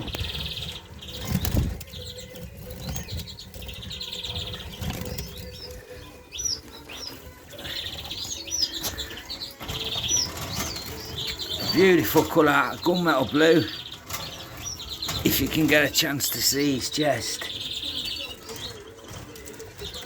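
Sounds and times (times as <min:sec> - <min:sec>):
buzzy bird trill: 0:00.0 - 0:20.0
small birds chirping: 0:00.0 - 0:20.0.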